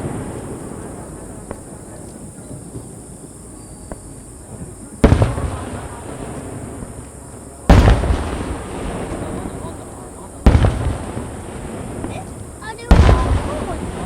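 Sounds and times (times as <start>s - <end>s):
firework shells booming: 0.0s - 14.0s.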